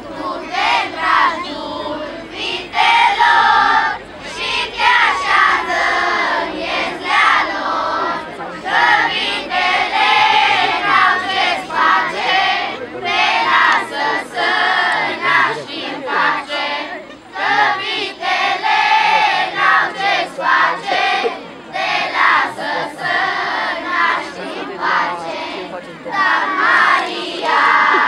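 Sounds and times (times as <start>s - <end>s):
children's choir singing a carol: 0.0s - 28.0s.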